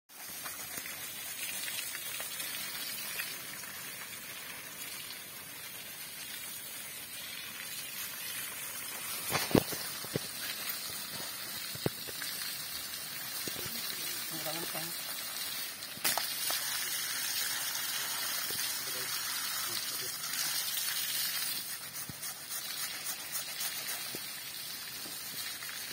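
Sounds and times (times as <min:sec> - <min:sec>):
hose water spraying and splashing: 0:00.1 - 0:25.9.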